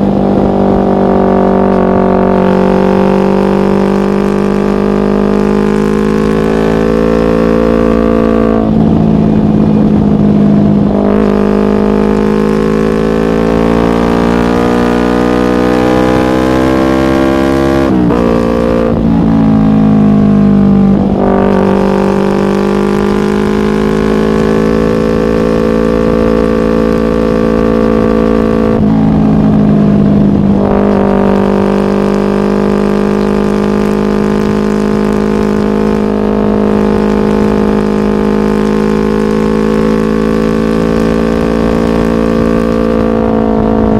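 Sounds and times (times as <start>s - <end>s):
motorcycle engine droning: 0.0s - 43.9s.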